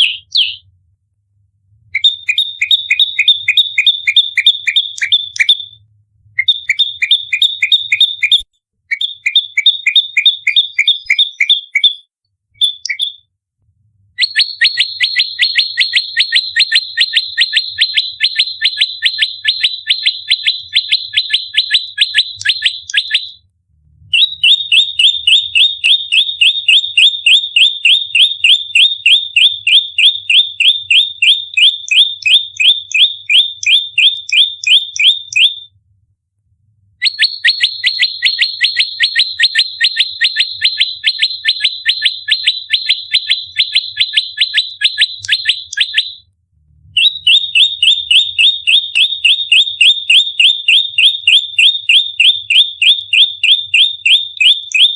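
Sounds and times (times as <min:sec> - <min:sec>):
bird rapid sharp chirps: 0:00.0 - 0:00.6, 0:02.0 - 0:05.8, 0:06.4 - 0:13.3, 0:14.2 - 0:23.4, 0:24.1 - 0:35.6, 0:37.0 - 0:46.2, 0:47.0 - 0:54.9.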